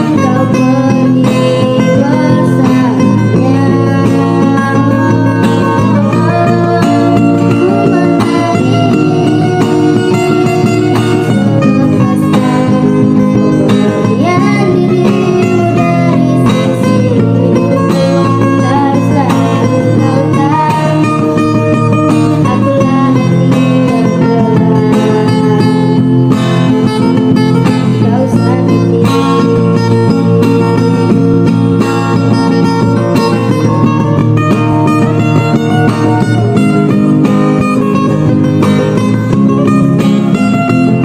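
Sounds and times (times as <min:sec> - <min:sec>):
fingerpicked guitar: 0:00.0 - 0:41.0
person singing: 0:00.0 - 0:41.0.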